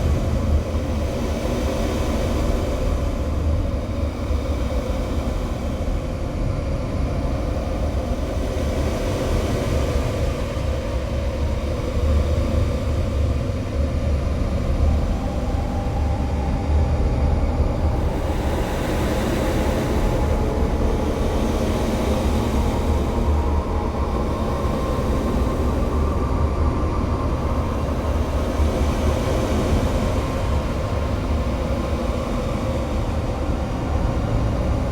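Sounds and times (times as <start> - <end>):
dense rumbling music noise: 0.0 - 34.9.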